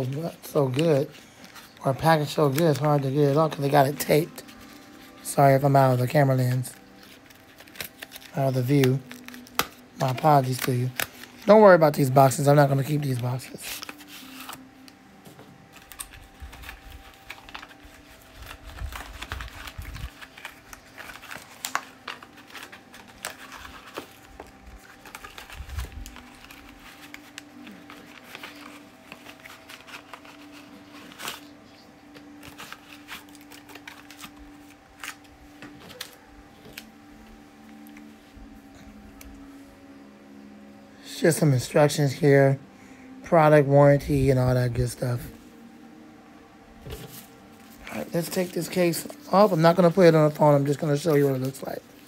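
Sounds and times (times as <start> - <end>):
packaging clicks and crinkles: 0.0 - 38.1, 46.8 - 52.0.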